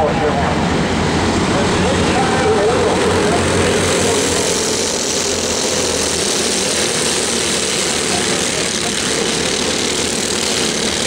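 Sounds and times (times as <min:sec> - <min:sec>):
go-kart engines droning: 0:00.0 - 0:11.0.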